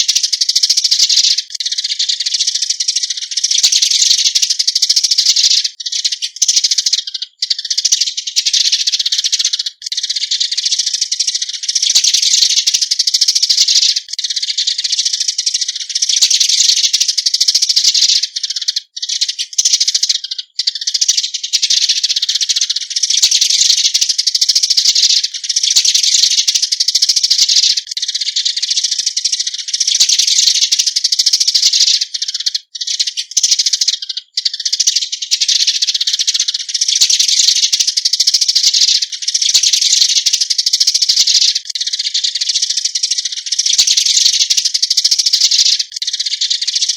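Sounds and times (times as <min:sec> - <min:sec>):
sparrows chirping chatter: 0:00.0 - 0:46.9.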